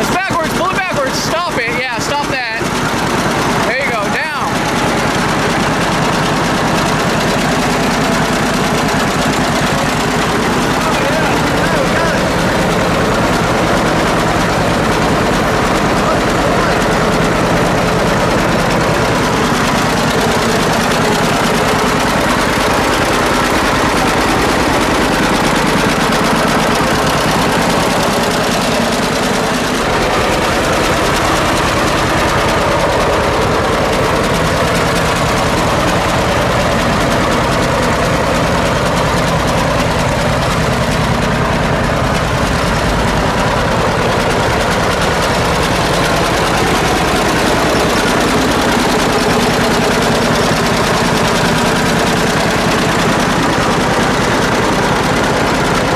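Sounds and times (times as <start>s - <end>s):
tractor engine idling: 0.0s - 55.9s.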